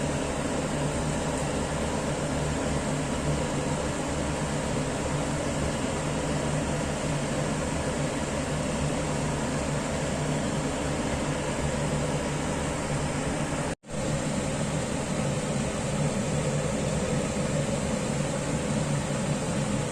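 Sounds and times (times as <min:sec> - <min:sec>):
steady mechanical hum with hiss: 0:00.0 - 0:19.9.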